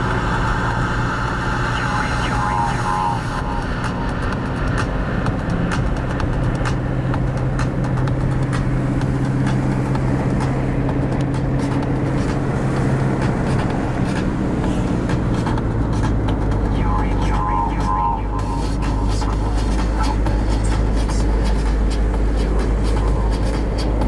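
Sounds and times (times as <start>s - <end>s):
motorcycle engine cruising: 0.0s - 24.0s
road and wind noise: 0.0s - 24.0s.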